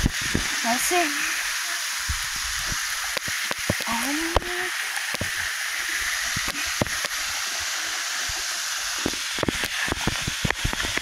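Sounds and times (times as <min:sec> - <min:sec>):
waterfall rushing hiss: 0:00.0 - 0:11.0.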